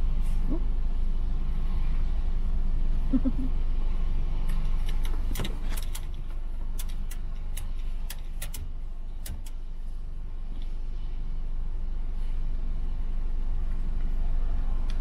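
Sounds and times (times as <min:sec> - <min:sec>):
car idling hum: 0:00.0 - 0:15.0.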